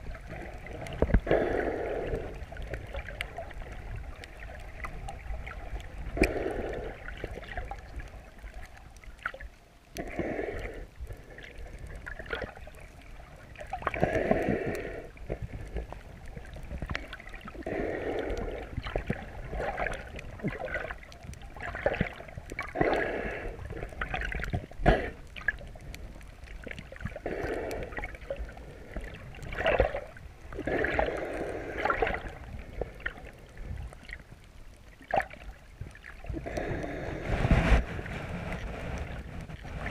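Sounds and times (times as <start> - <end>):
low underwater rumble: 0.0 - 39.9
underwater water sloshing: 0.0 - 39.9.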